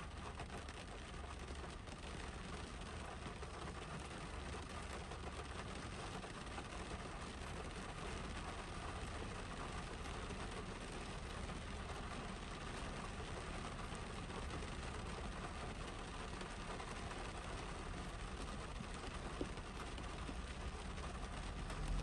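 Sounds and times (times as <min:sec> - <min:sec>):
rain on car roof: 0:00.0 - 0:22.0.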